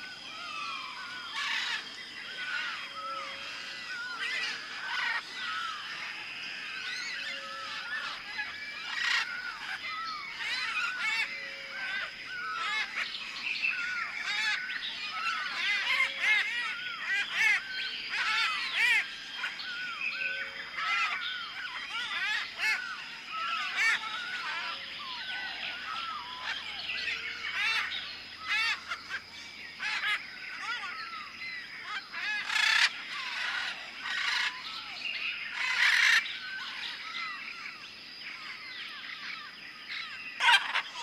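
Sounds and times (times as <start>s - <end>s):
flock of birds calling: 0.0s - 41.0s.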